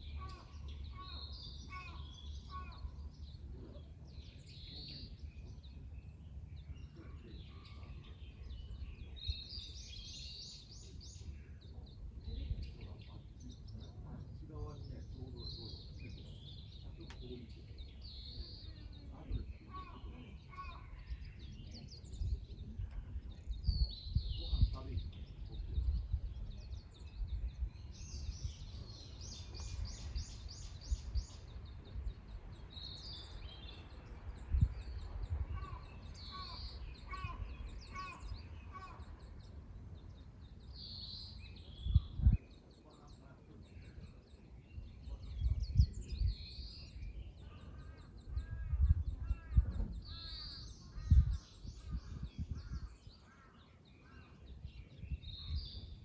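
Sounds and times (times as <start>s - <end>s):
wild birds singing: 0.0s - 56.0s.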